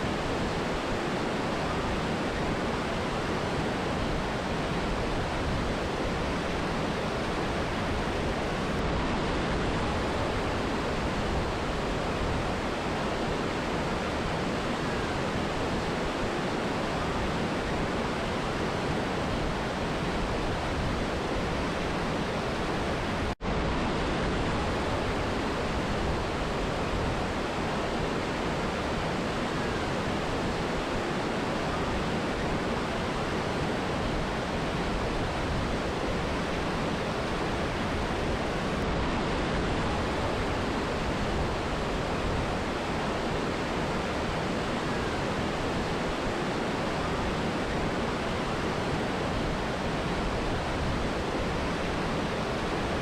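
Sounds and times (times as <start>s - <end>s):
river and waterfall rushing: 0.0s - 53.0s.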